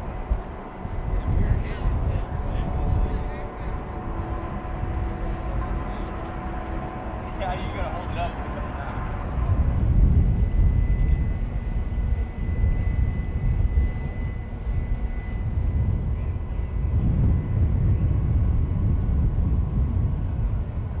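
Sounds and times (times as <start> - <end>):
faint thin whine: 0.0 - 21.0
machinery rumble: 0.0 - 21.0
wind rumble: 0.0 - 21.0.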